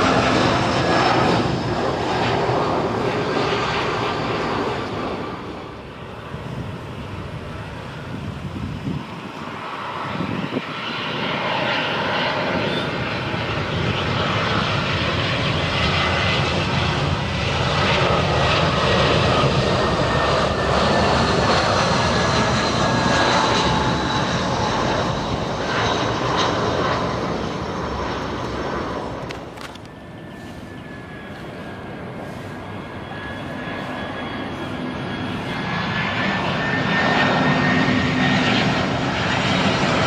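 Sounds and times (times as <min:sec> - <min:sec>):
high engine whine: 0:00.0 - 0:40.0
jet engines roaring: 0:00.0 - 0:40.0.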